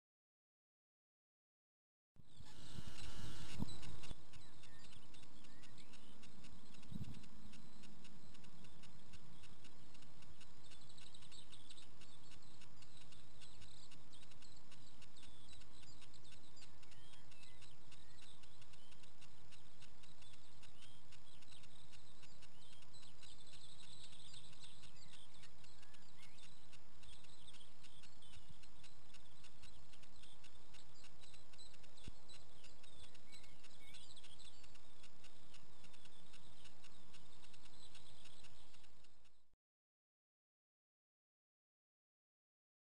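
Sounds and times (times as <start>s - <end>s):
outdoor background hiss: 2.2s - 39.4s
small birds chirping: 2.2s - 39.5s.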